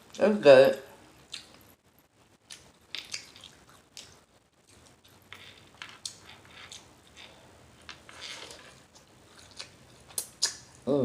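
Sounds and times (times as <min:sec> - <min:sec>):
person chewing noodles: 0:01.2 - 0:01.7, 0:02.4 - 0:10.8.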